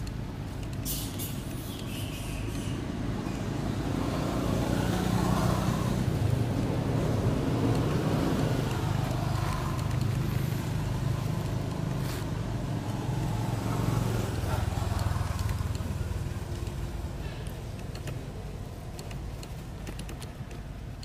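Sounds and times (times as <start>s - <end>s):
low engine hum: 2.3s - 21.0s.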